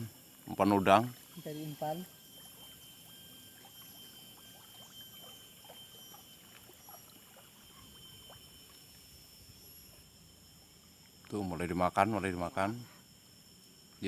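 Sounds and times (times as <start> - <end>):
water sloshing and dripping: 0.0 - 11.4
thin steady high tone: 0.0 - 14.0.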